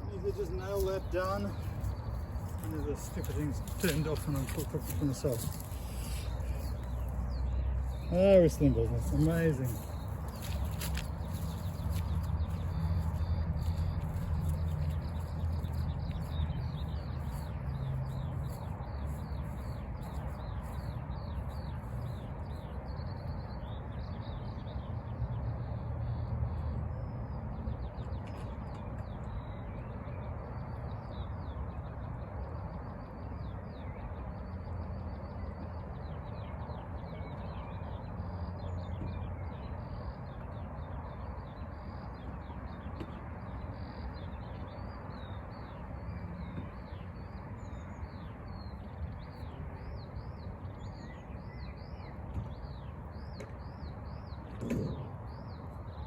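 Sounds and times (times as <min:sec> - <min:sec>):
small birds chirping: 0:00.0 - 0:25.0, 0:36.0 - 0:56.0.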